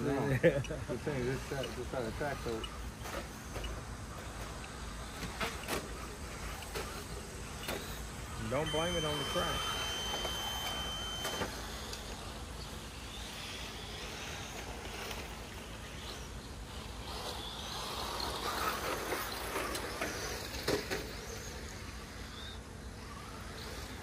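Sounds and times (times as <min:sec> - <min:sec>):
electric motors whining: 0:00.0 - 0:24.0
tyres scrabbling on dirt: 0:01.1 - 0:21.8.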